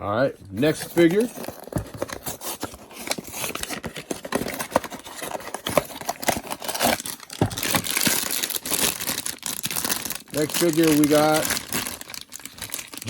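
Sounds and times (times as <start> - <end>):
packaging rustling and tearing: 0.6 - 13.0.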